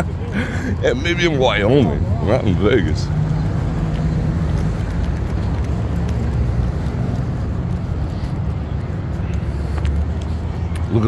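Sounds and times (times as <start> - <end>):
car traffic driving by: 0.0 - 11.0.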